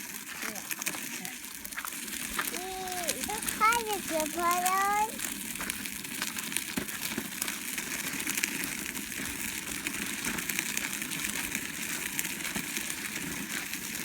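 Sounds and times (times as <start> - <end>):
bike rolling on snow: 0.0 - 14.0.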